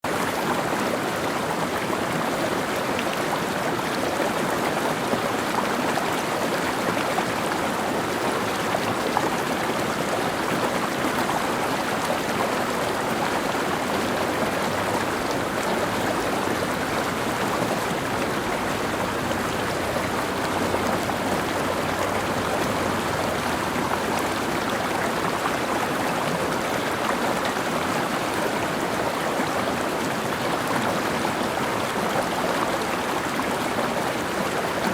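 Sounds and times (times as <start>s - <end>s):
stream flowing over rocks: 0.1s - 34.9s.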